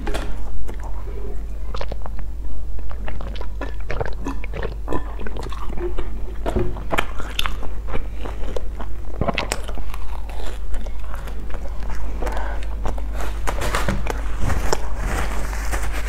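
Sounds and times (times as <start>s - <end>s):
person biting and chewing: 1.7s - 16.0s.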